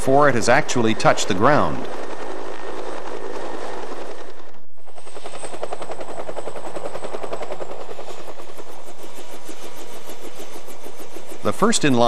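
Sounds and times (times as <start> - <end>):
helicopter rotor chop: 0.0 - 12.0
turbine whine: 0.0 - 12.0.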